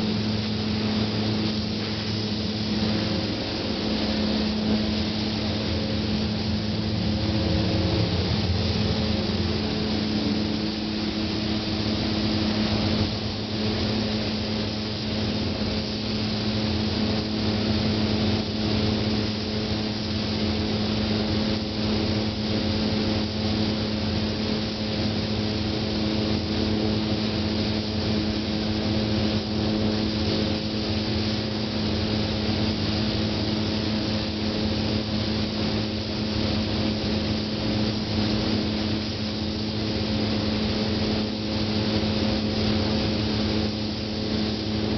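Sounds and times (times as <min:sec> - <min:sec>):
paint spray gun hissing: 0:00.0 - 0:26.0, 0:26.6 - 0:44.9
machine hum: 0:00.0 - 0:44.9.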